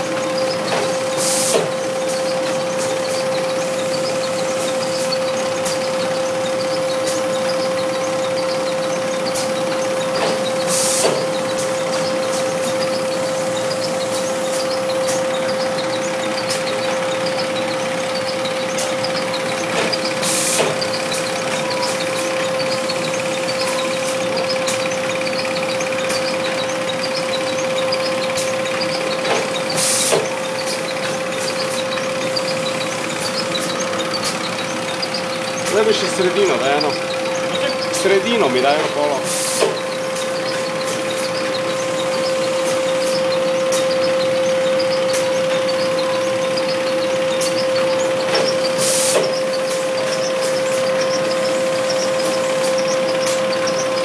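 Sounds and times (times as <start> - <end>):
conveyor machine humming: 0.0 - 54.0.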